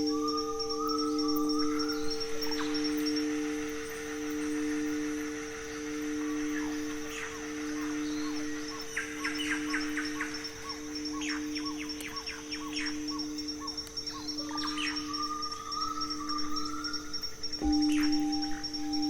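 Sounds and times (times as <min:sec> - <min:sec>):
singing bowl ringing: 0:00.0 - 0:12.0, 0:12.9 - 0:19.0
birds calling: 0:00.0 - 0:19.0.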